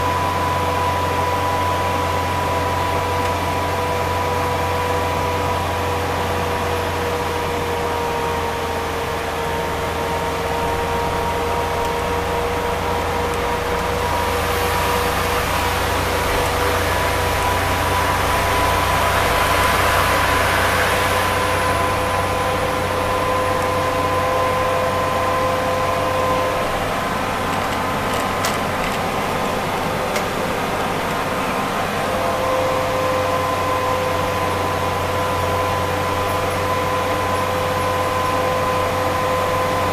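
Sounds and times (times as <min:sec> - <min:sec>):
broad rush of noise: 0:00.0 - 0:39.9
steady whine: 0:00.0 - 0:39.9
vehicle engine and road drone: 0:00.0 - 0:39.9.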